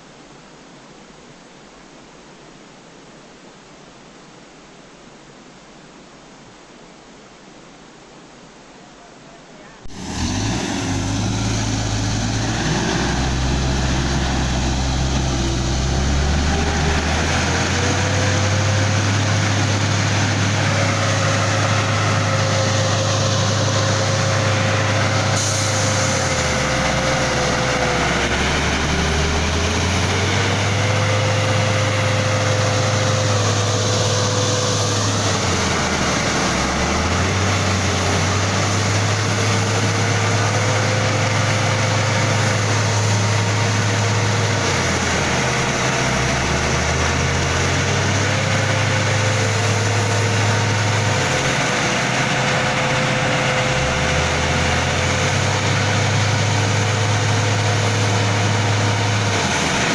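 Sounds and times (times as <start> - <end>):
truck engine running: 9.9 - 59.9.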